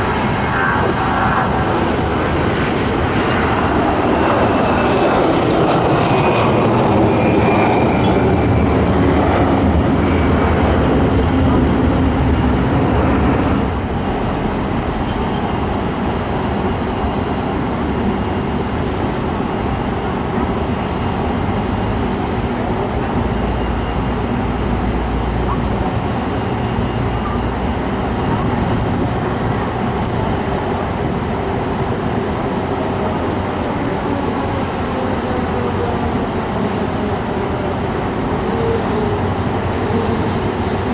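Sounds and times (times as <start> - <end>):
falling engine whine: 0.0 - 40.9
jet engines running loud: 0.0 - 40.9.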